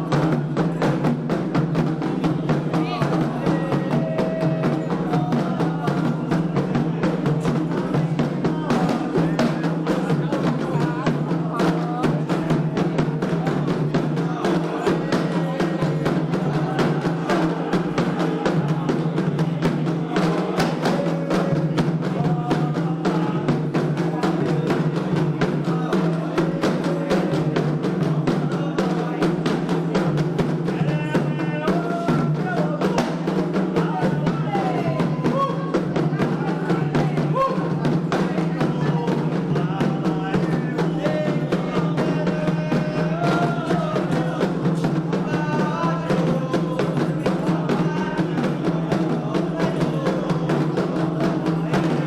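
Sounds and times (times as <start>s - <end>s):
fast hand drumming: 0.0s - 52.0s
voices singing: 0.0s - 52.0s.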